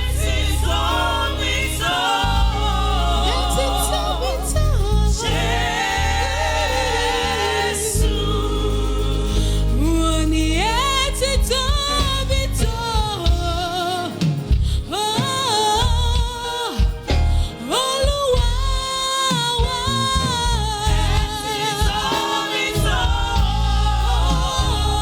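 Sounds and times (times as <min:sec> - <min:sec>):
instrumental backing with bass: 0:00.0 - 0:25.0
person singing with vibrato: 0:00.0 - 0:25.0.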